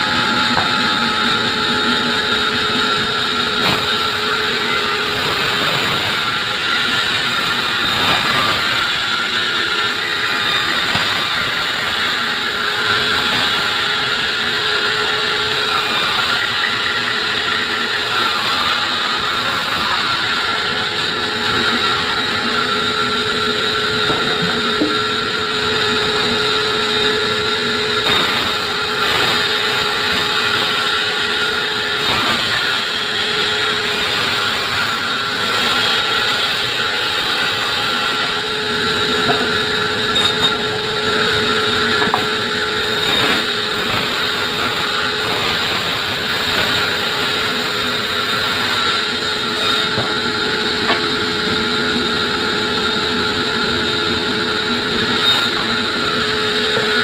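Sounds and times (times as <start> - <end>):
grinding noise: 0.0 - 57.0
sawmill saw whining: 0.0 - 57.0.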